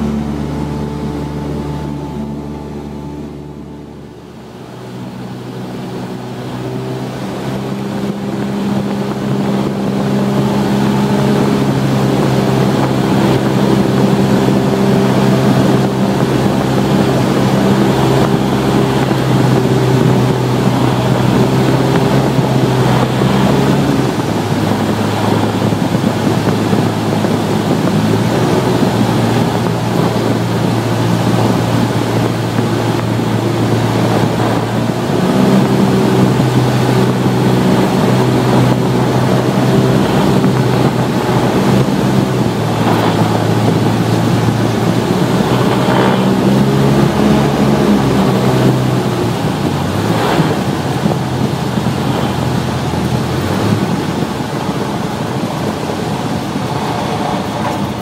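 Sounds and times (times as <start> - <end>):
air rushing past: 0.0 - 58.0
aircraft engine droning: 0.0 - 58.0.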